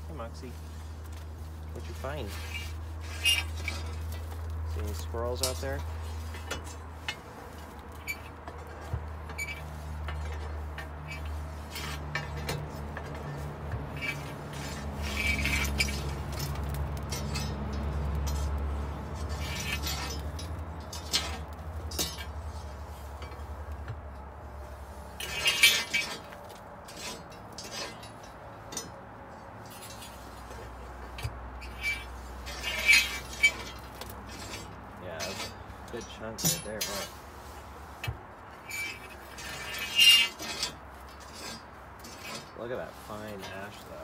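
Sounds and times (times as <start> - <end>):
metal rake scraping ash: 0.0 - 44.0
metal clanks: 1.8 - 24.4, 25.1 - 37.2, 38.0 - 44.0.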